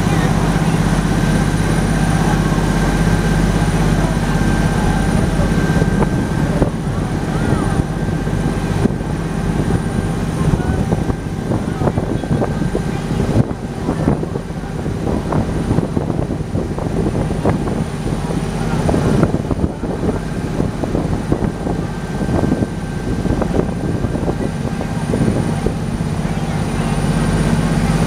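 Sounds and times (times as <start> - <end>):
boat engine droning: 0.0 - 28.0
water splashing along hull: 0.0 - 28.0.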